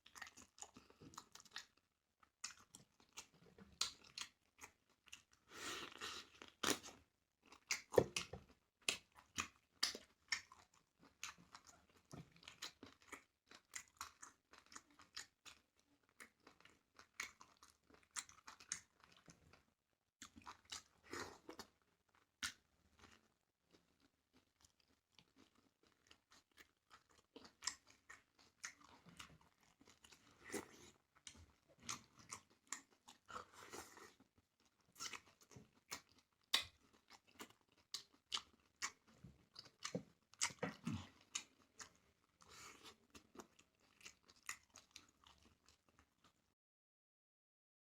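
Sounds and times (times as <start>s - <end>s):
chewing and mouth smacking: 0.0s - 19.6s, 20.2s - 46.4s.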